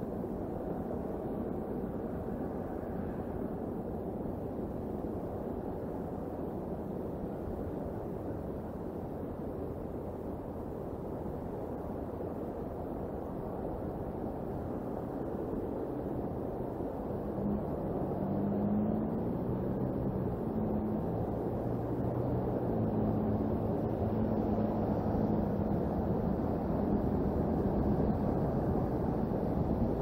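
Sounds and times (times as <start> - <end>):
low rushing outdoor noise: 0.0 - 30.0.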